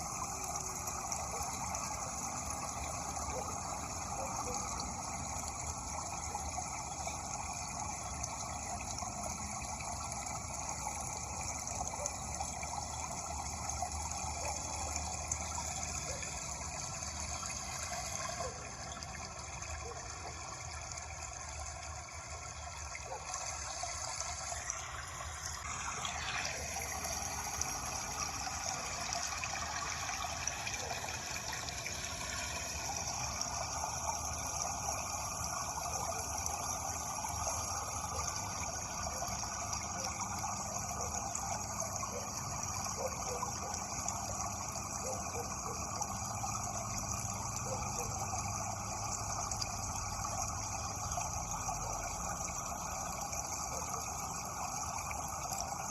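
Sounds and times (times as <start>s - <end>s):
water running steadily: 0.0s - 55.9s.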